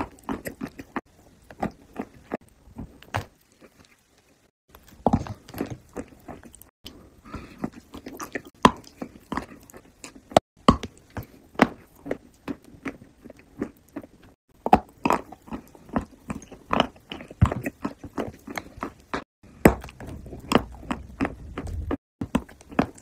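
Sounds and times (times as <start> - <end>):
chewing crunchy food: 0.0 - 23.0.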